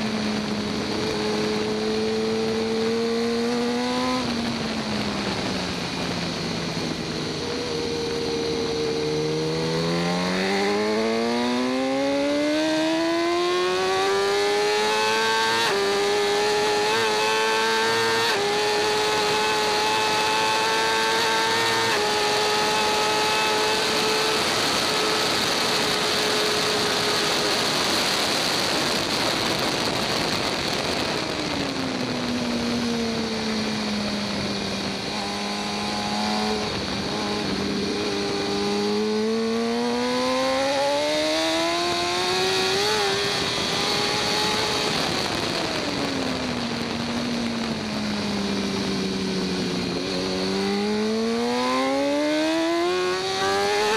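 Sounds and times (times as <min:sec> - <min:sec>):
motorcycle engine accelerating: 0:00.0 - 0:53.9
wind rushing noise: 0:00.0 - 0:53.9.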